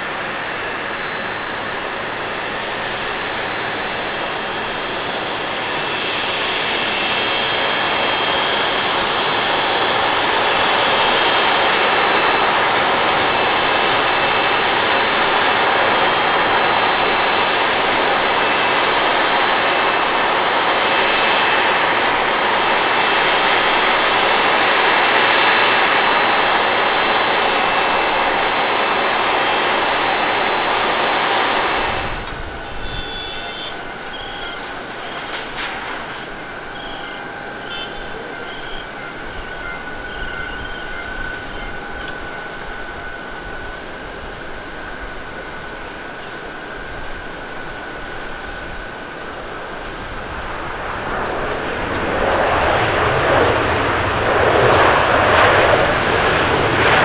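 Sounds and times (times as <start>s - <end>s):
jet engines roaring with whine: 0.0s - 57.0s.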